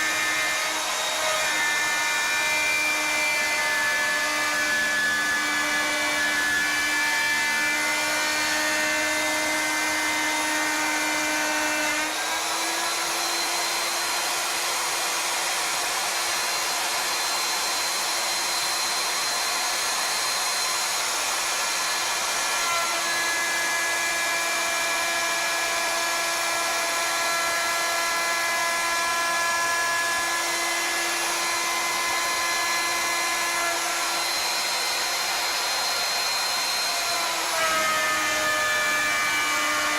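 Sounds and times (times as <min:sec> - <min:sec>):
wood cutting hiss: 0:00.0 - 0:39.9
wood router whine: 0:00.0 - 0:39.9.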